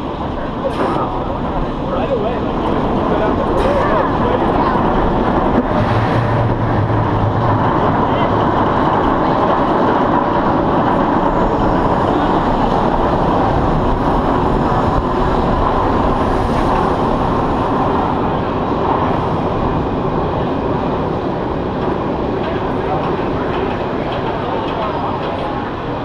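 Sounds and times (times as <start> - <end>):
coaster wheels on track: 0.0 - 26.0
wind on microphone: 0.0 - 26.0.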